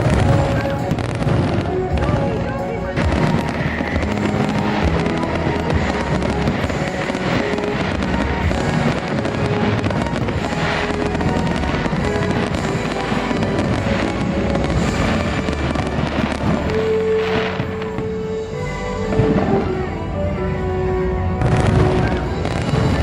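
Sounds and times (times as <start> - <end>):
fireworks bursting: 0.0 - 23.0
music: 0.0 - 23.0.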